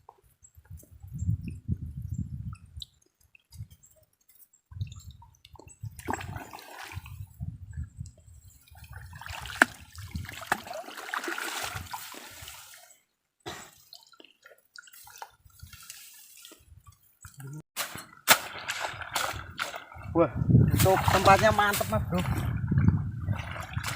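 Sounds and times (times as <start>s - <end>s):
water splashing and sloshing: 2.4s - 23.9s.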